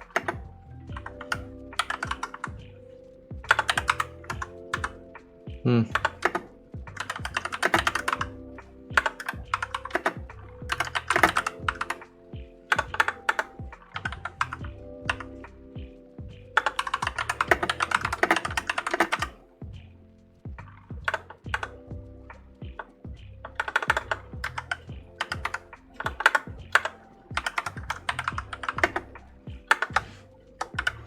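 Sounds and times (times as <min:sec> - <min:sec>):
fast typing on mechanical keyboard: 0:00.0 - 0:02.6, 0:03.5 - 0:05.0, 0:05.9 - 0:12.1, 0:12.7 - 0:15.4, 0:16.6 - 0:19.4, 0:21.0 - 0:21.8, 0:22.8 - 0:31.0.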